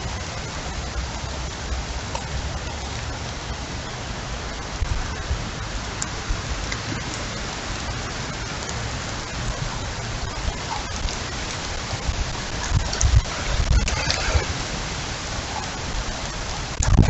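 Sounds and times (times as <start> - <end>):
drips ticking: 0.0 - 17.0
heavy rain falling: 0.0 - 17.0
wind gusts buffeting microphone: 0.0 - 17.0.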